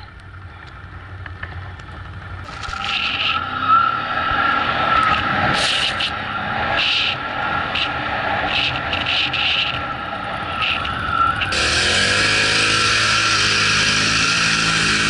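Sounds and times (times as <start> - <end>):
quad engine droning: 0.0 - 15.0.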